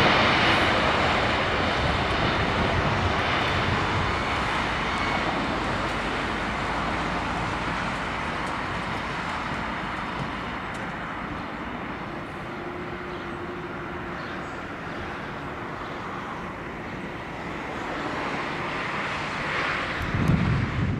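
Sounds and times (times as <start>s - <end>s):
jet engines roaring: 0.0s - 20.9s.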